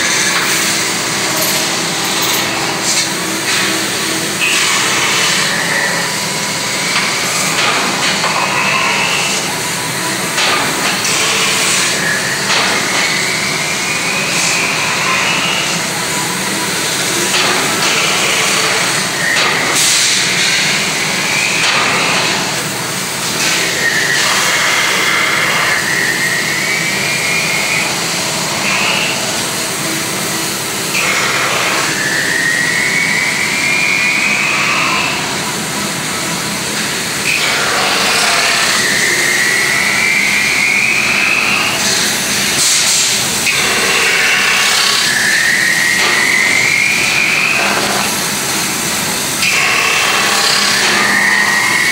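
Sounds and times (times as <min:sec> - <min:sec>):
metal-spinning lathe running: 0:00.0 - 0:51.9.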